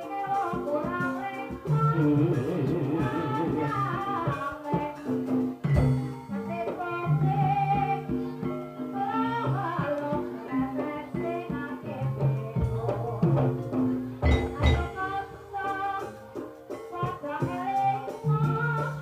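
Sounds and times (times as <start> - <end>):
person singing: 0.0 - 5.6, 6.3 - 19.0
gamelan instruments: 0.0 - 19.0
hand drum strikes: 0.0 - 19.0.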